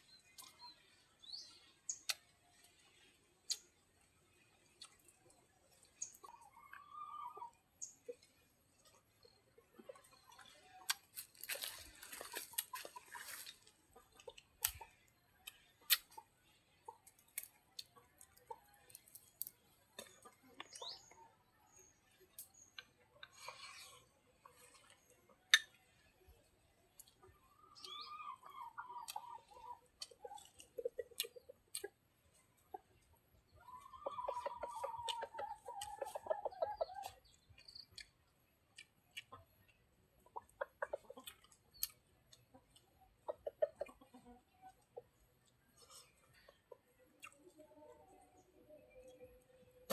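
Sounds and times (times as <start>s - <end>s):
chickens calling: 4.7s - 49.9s.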